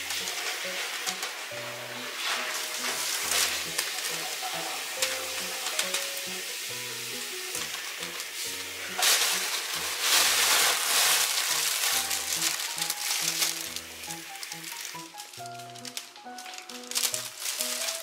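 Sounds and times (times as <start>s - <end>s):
light background music: 0.0s - 18.0s
plastic bag rustling and crinkling: 0.0s - 18.0s.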